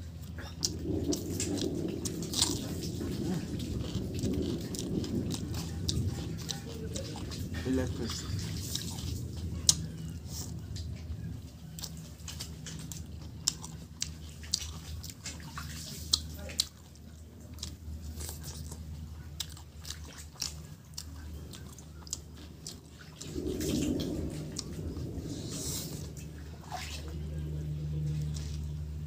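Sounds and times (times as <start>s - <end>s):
steady low hum: 0.0s - 29.0s
wet chewing: 0.0s - 29.0s.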